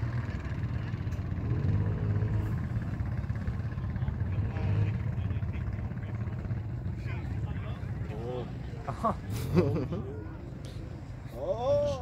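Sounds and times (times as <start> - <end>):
atv engine droning: 0.0 - 12.0.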